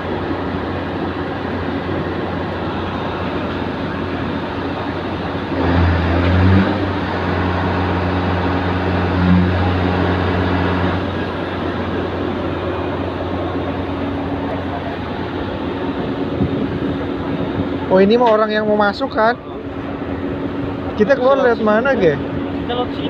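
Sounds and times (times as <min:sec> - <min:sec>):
heavy engine humming: 0:00.0 - 0:23.0
rumble of vehicle engines: 0:00.0 - 0:23.0.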